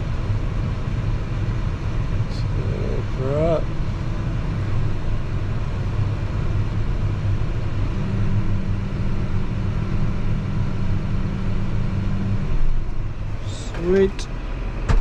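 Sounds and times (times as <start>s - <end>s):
tractor engine running: 0.0s - 15.0s
steady hum: 0.2s - 15.0s.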